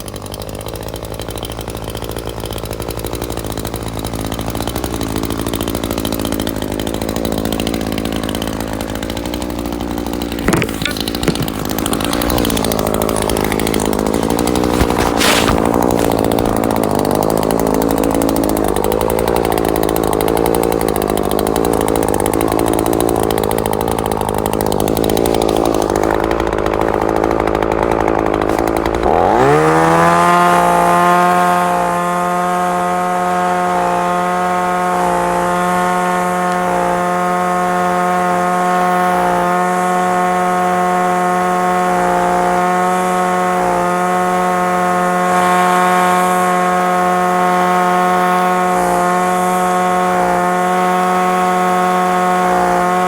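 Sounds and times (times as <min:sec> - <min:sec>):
string trimmer engine revving: 0:00.0 - 0:53.0.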